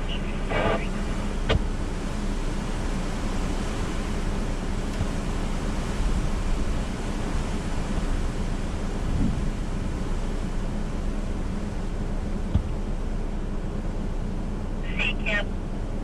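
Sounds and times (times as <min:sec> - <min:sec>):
faint low hum: 0:00.0 - 0:16.0
hurricane wind: 0:00.0 - 0:16.0
rain: 0:00.0 - 0:16.0.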